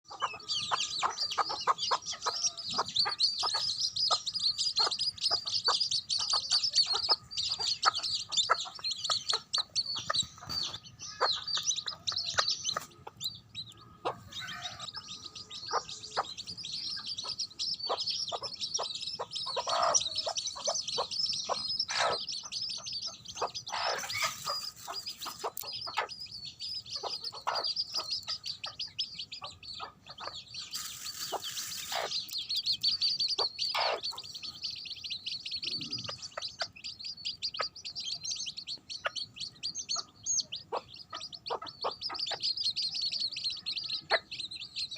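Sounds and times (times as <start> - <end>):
baby chicks peeping: 0.0 - 44.9
hen clucking: 0.1 - 44.9.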